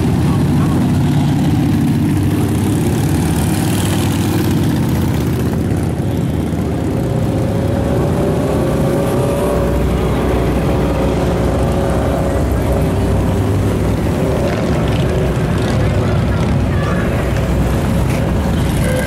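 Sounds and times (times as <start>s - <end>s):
motorcycles and cars driving past: 0.0s - 19.0s.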